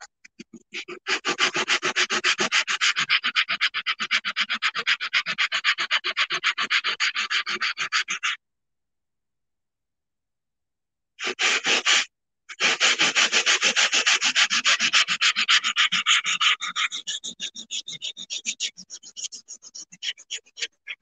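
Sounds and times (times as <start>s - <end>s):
sanding block rubbing on tile: 0.4s - 8.4s, 11.2s - 21.0s.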